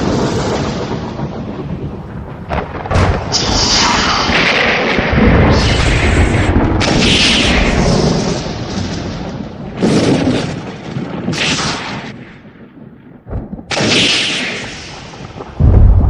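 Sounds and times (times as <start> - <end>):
thunder cracks and rumble: 0.0 - 16.0.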